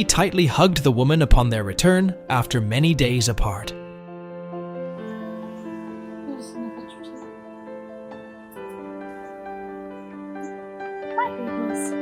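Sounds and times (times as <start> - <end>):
sustained keyboard chords: 0.0 - 12.0.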